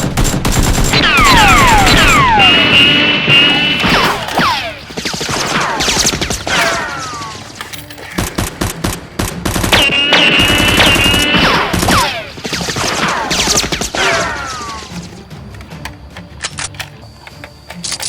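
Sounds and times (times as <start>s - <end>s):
background music: 0.1s - 18.0s.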